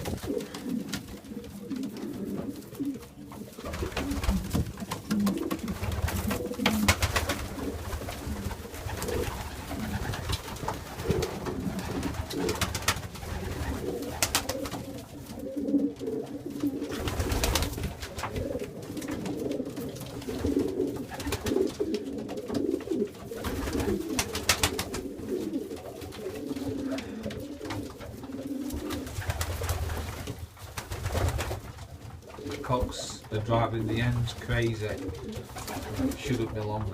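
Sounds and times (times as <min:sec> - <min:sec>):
pigeons cooing: 0:00.0 - 0:31.5, 0:32.2 - 0:36.9.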